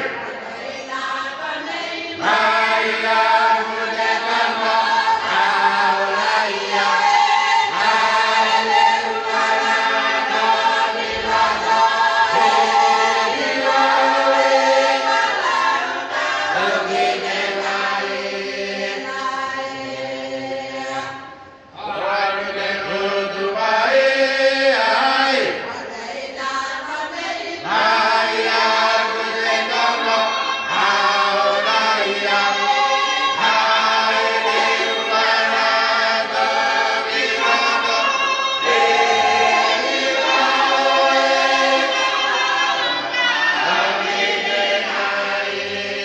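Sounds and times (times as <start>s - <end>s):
congregation singing a hymn: 0.0s - 46.0s.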